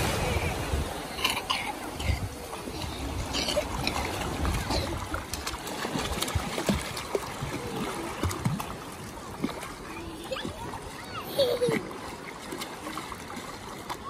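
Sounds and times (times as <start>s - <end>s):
small waves washing: 0.0s - 14.0s
water splashing: 0.0s - 14.0s.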